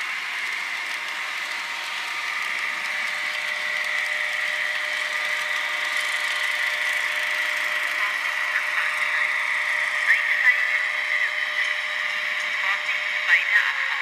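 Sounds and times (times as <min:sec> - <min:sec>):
model train motors whirring: 0:00.0 - 0:14.0.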